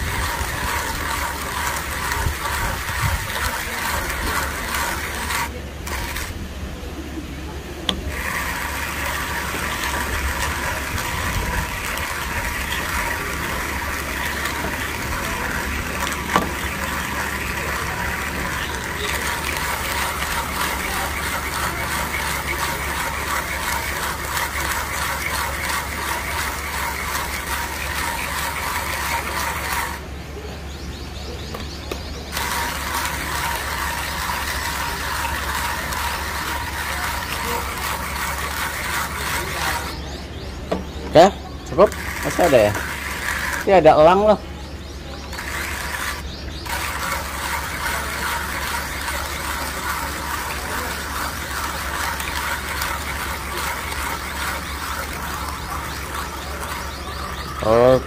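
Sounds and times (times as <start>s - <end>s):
hand coffee grinder crunching: 0.0s - 6.4s, 7.9s - 30.0s, 32.3s - 40.0s, 41.8s - 43.8s, 45.3s - 57.8s.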